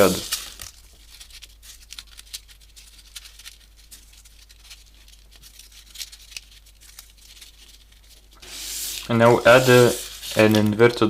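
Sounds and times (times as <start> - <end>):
paper rustling and clicking: 0.0 - 11.0.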